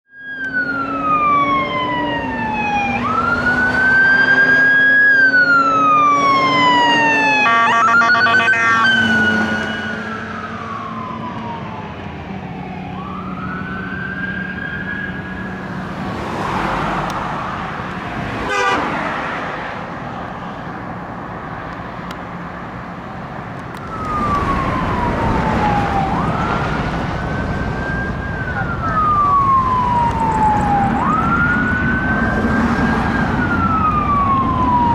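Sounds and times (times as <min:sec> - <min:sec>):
siren wailing: 0:00.1 - 0:18.8, 0:23.7 - 0:34.9
traffic noise: 0:00.1 - 0:34.9.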